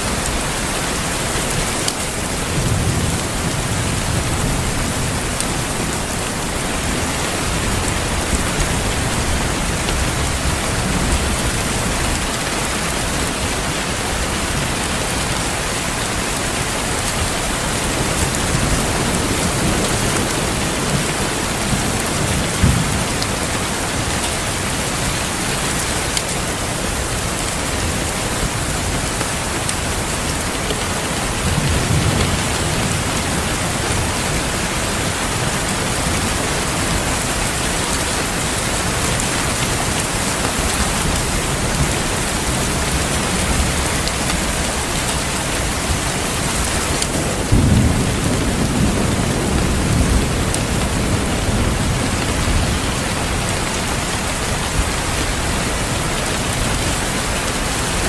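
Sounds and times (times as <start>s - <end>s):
steady rain: 0.0s - 58.0s
thunder rumble: 2.2s - 25.9s, 26.6s - 57.4s.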